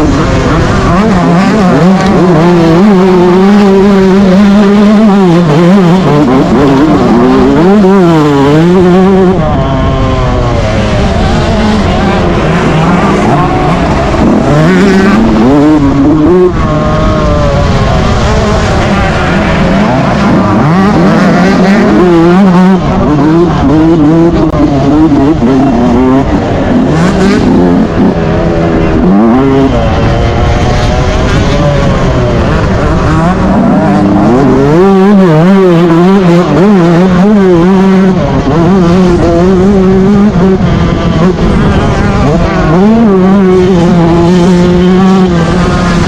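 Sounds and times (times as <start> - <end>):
motocross engine revving: 0.0 - 46.0.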